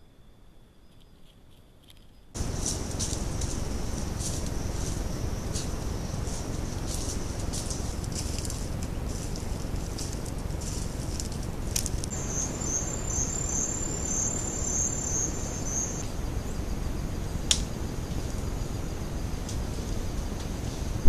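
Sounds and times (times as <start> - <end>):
insects trilling: 2.4 - 21.0
low steady rumble: 2.4 - 21.0.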